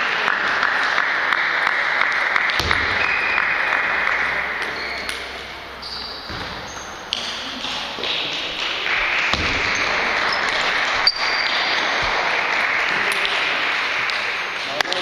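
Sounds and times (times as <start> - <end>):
hall noise: 0.0 - 15.0.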